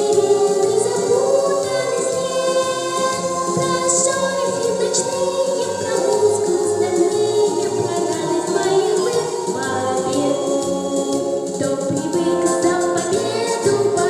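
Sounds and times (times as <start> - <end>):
high voice singing with vibrato: 0.0 - 14.0
instrumental accompaniment: 0.0 - 14.0.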